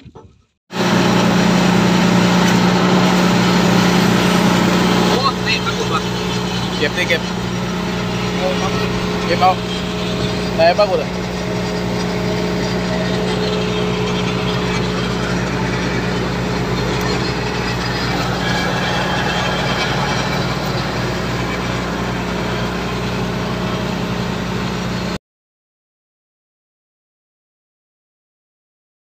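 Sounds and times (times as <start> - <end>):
diesel engine idling: 0.7 - 25.2.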